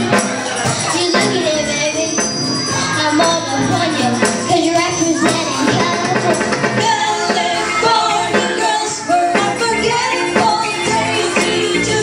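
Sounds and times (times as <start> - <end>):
live rock band playing: 0.0 - 12.0
person singing: 0.9 - 12.0.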